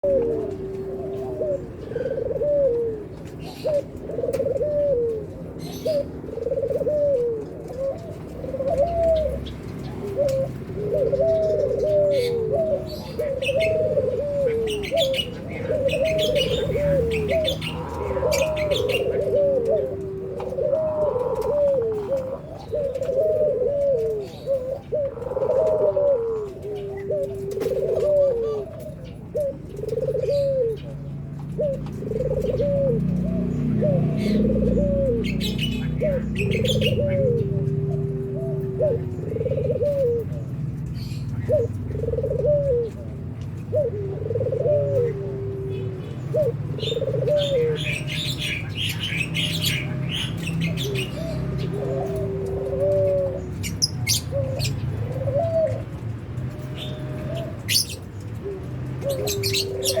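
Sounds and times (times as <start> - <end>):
doves cooing: 0.0 - 60.0.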